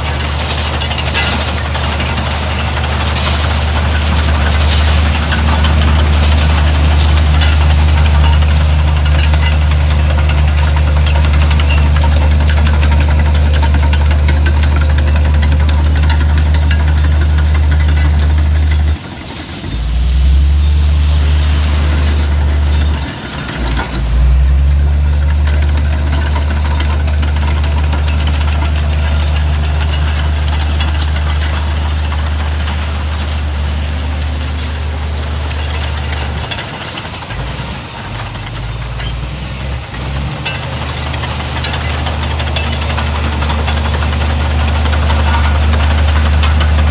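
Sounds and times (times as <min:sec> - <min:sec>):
diesel engine under load: 0:00.0 - 0:46.9.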